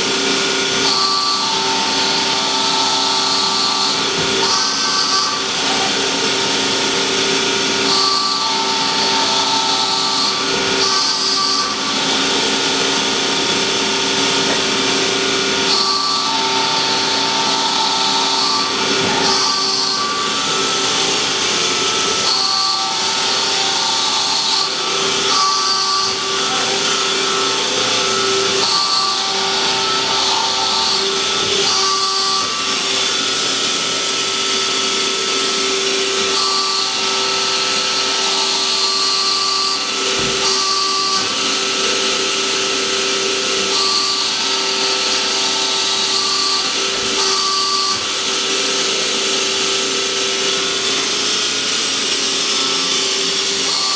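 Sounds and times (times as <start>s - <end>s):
hydraulic power unit humming: 0.0s - 53.9s.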